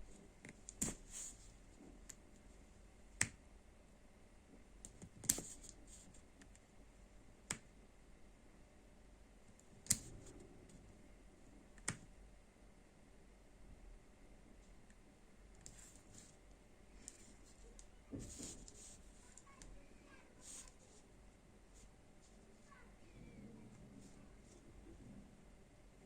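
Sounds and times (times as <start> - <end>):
faint room hiss: 0.0 - 26.0.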